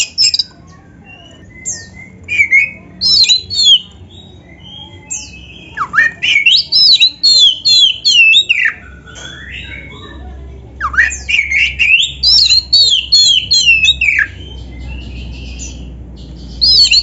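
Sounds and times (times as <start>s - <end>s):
bird whistling song: 0.0s - 17.0s.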